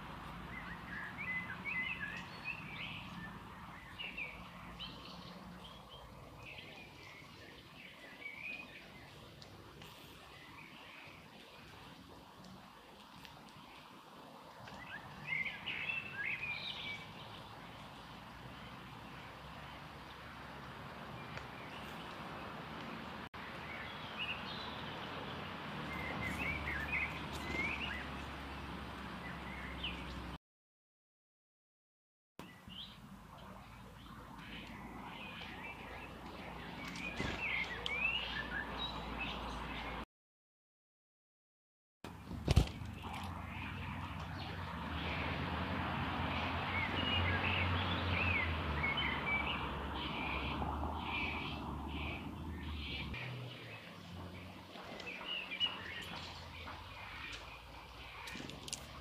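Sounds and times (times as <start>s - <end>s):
small songbirds chirping: 0.0s - 30.4s, 32.4s - 40.0s, 42.1s - 59.0s.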